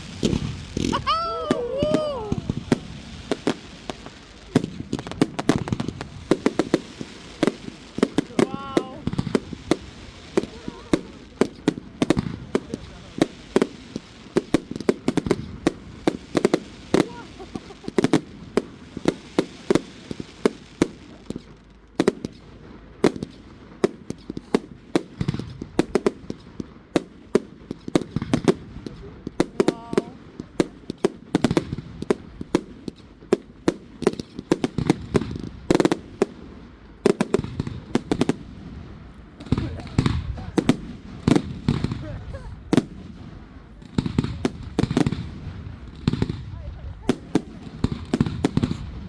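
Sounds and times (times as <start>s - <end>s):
firework bangs and crackles: 0.0s - 49.0s.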